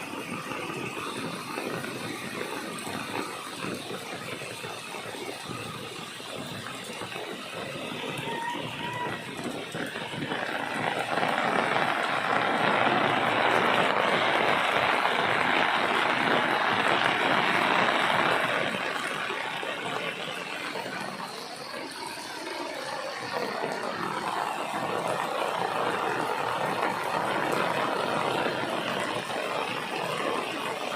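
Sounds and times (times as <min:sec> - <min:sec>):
heavy rain falling: 0:00.0 - 0:30.9.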